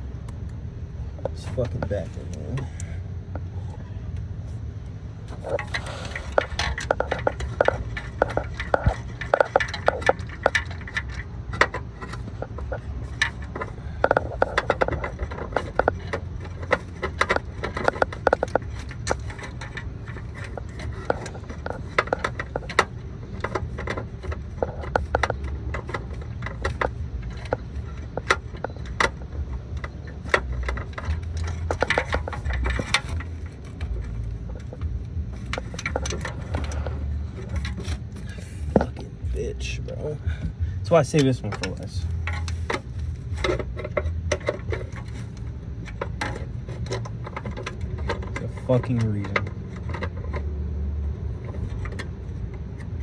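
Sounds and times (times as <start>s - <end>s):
steady low rumble: 0.0s - 53.0s
hand tools clinking on metal: 5.3s - 53.0s.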